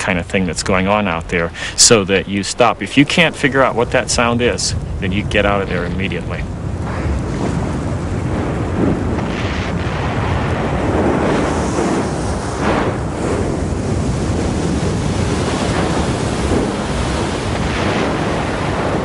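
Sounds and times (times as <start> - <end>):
lava rushing roar: 0.0 - 19.0.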